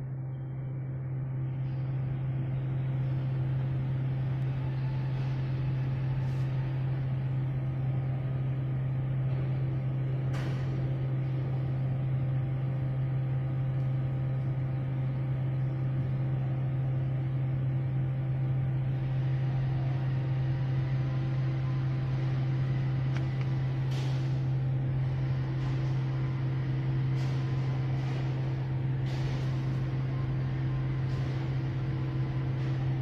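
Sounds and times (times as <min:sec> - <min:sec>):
machinery motor hum: 0:00.0 - 0:33.0.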